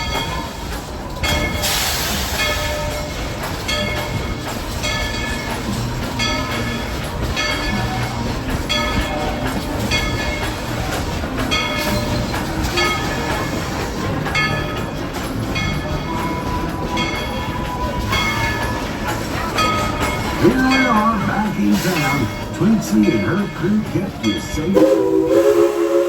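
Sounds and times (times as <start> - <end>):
steam train cars clattering: 0.0 - 26.0.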